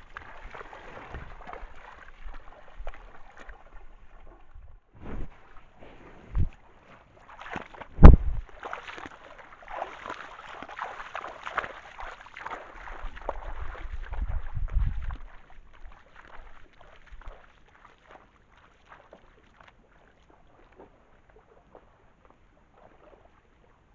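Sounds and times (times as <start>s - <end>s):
water splashing around legs: 0.0s - 23.9s.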